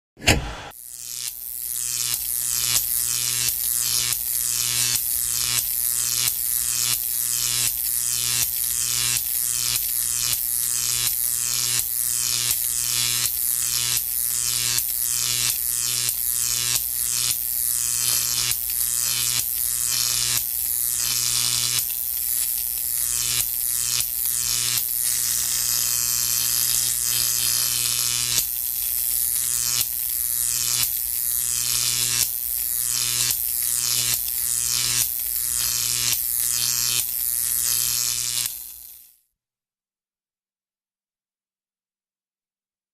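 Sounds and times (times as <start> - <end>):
crackling electrical buzz: 0.2 - 39.2.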